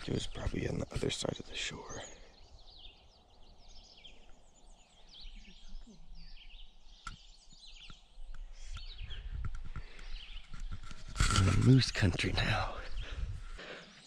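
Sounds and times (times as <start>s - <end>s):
songbirds chirping and singing: 0.0s - 14.0s.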